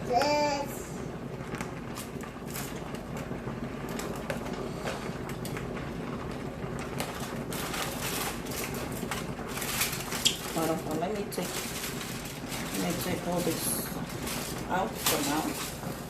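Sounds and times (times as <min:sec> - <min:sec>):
rustling and clicks at a pot: 0:00.0 - 0:16.0
steady low hum: 0:00.0 - 0:16.0.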